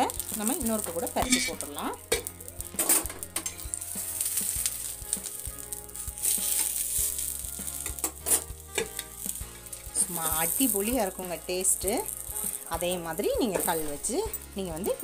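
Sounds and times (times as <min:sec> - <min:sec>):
fish parcel sizzling in oil: 0:00.0 - 0:15.0.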